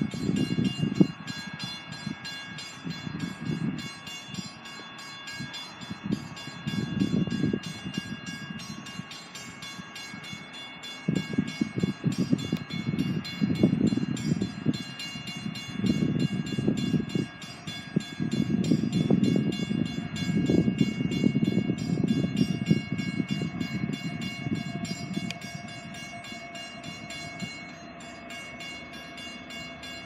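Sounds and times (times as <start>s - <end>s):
distant train rumble: 0.0s - 30.0s.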